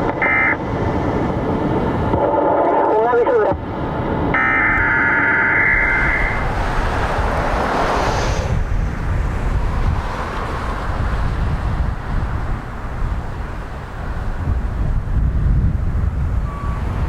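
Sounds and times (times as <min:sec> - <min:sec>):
wind buffeting microphone: 0:00.0 - 0:02.7, 0:03.5 - 0:04.9, 0:05.5 - 0:17.0.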